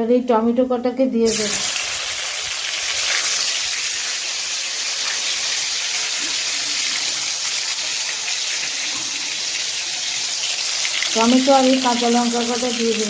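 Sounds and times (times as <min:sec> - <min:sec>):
hot oil sizzling: 0:01.2 - 0:13.0.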